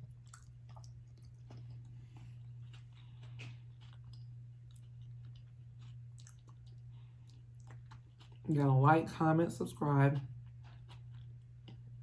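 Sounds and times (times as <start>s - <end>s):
chewing with wet mouth clicks: 0.0s - 8.6s, 10.2s - 12.0s
low electrical hum: 0.0s - 12.0s.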